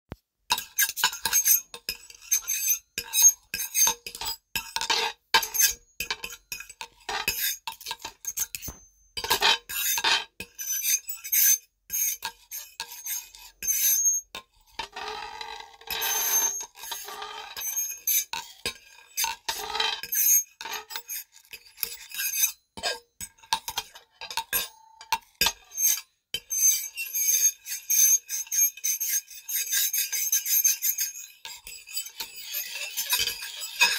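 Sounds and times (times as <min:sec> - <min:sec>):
knife squeaking across a plate: 0:00.5 - 0:23.0, 0:23.7 - 0:33.9.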